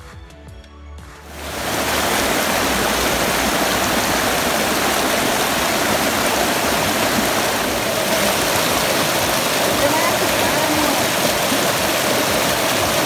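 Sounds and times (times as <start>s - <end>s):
creek water rushing over boulders: 1.3s - 13.0s.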